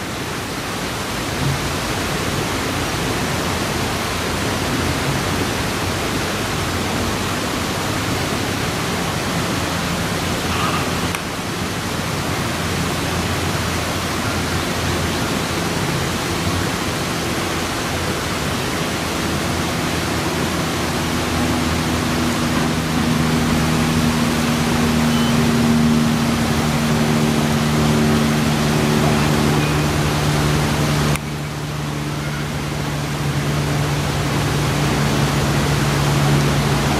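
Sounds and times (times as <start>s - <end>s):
steady rushing noise: 0.0s - 36.9s.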